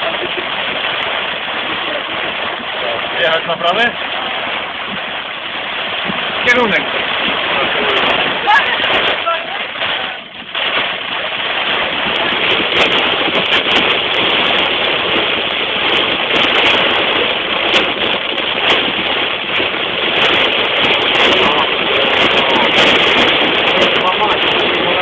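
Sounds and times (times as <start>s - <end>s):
heavy rain drumming on car roof: 0.0s - 25.0s.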